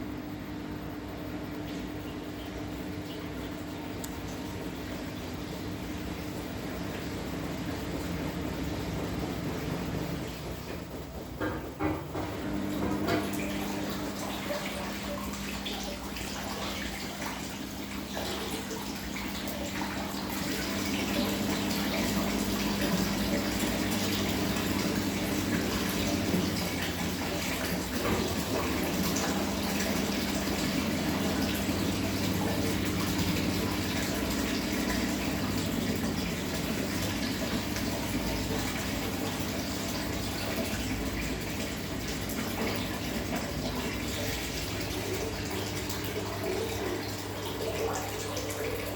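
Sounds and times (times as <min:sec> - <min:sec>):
mechanical hum: 0:00.0 - 0:48.9
water rushing in washing machine: 0:00.0 - 0:48.9.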